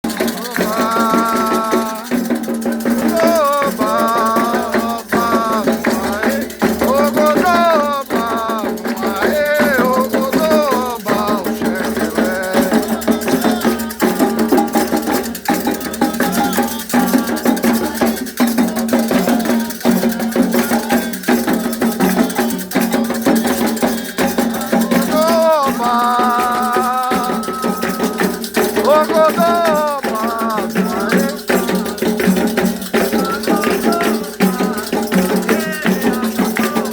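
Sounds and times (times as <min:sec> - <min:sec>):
percussion strokes: 0:00.0 - 0:36.9
shaken rattles: 0:00.0 - 0:36.9
voices singing a chant: 0:00.0 - 0:36.9.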